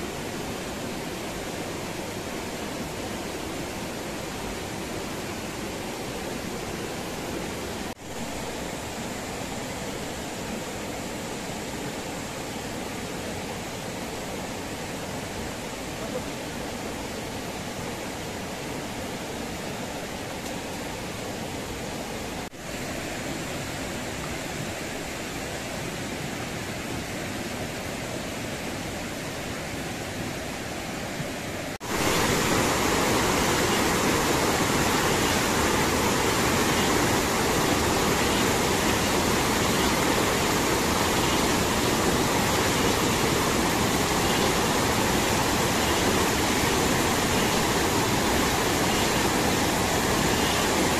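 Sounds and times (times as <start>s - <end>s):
rapids pouring over rocks: 0.0s - 50.9s
river rushing: 0.0s - 50.9s.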